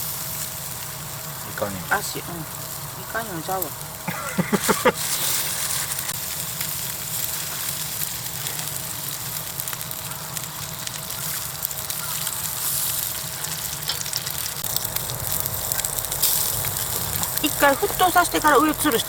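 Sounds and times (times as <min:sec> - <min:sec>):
squid sizzling and popping: 0:00.0 - 0:19.0.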